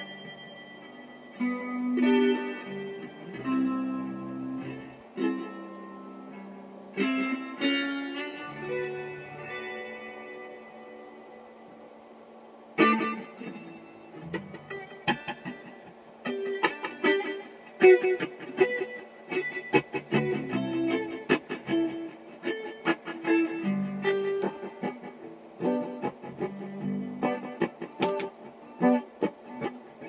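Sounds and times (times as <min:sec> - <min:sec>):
electric guitar playing: 0:00.0 - 0:30.0.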